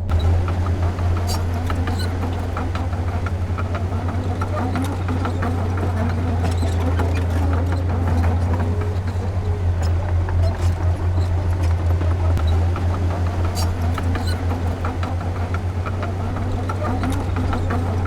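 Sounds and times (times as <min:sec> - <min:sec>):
heavy diesel engine running: 0:00.0 - 0:18.0
light clicks and clanks: 0:00.0 - 0:18.0.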